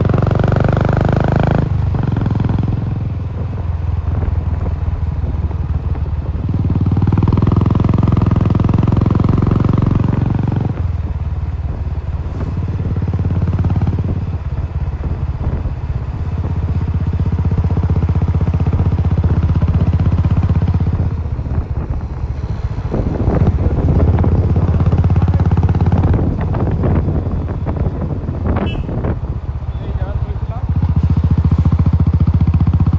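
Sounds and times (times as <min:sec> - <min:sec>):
motorcycle engine thumping: 0:02.0 - 0:29.6.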